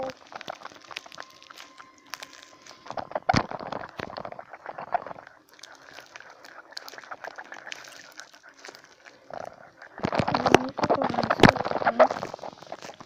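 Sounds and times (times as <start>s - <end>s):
paper and tape crinkling: 0.0s - 13.0s.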